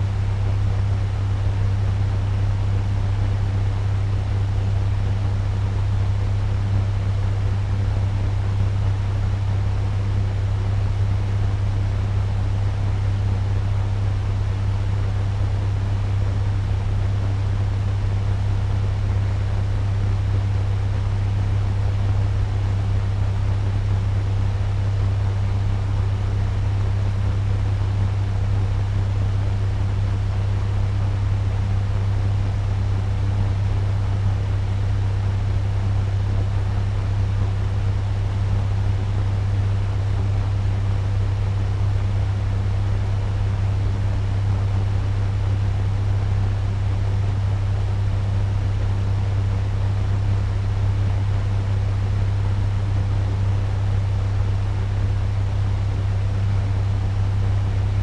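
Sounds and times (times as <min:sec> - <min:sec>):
fan rushing air: 0:00.0 - 0:58.0
steady low hum: 0:00.0 - 0:58.0.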